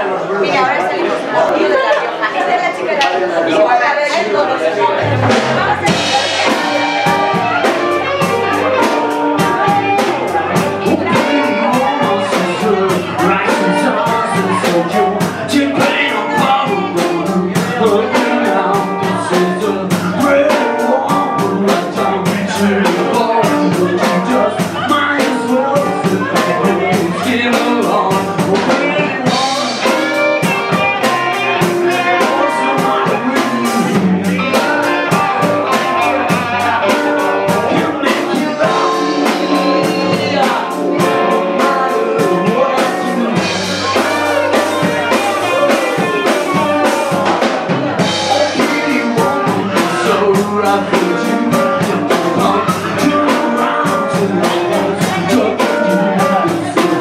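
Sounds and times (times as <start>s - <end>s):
electric blues band playing: 0.0s - 57.0s.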